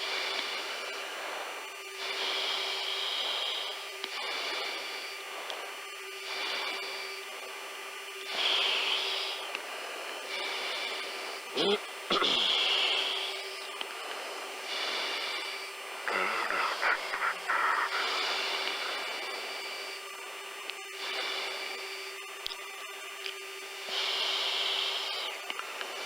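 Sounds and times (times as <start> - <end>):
breathing through oxygen mask: 0.0 - 22.2, 23.6 - 26.0
jet cockpit hiss and hum: 0.0 - 26.0.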